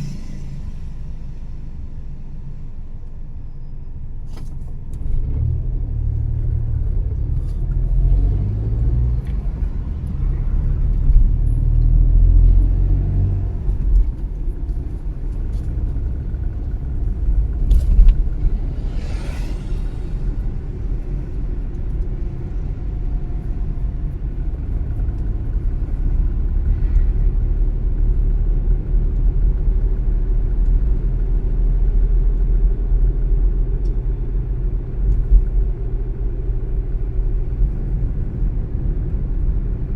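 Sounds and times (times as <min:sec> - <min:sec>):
car engine rumble: 0:00.0 - 0:39.9
tyres on road: 0:00.0 - 0:39.9.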